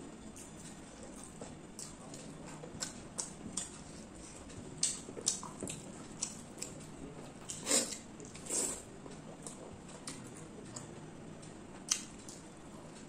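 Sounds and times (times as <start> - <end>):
person chewing food: 0.3 - 10.9, 11.8 - 12.5.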